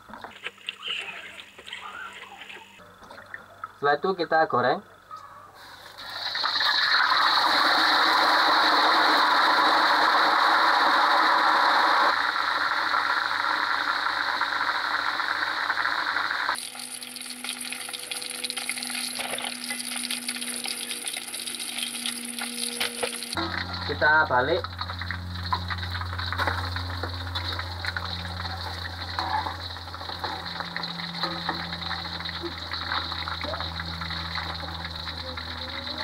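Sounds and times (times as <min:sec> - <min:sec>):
fish deep-frying in hot oil: 0:05.7 - 0:36.0.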